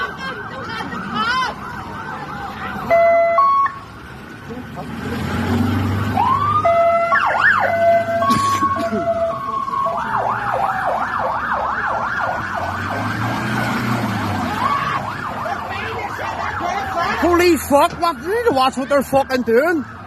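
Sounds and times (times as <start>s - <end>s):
engines rumbling by: 0.0s - 20.0s
police sirens: 0.0s - 20.0s.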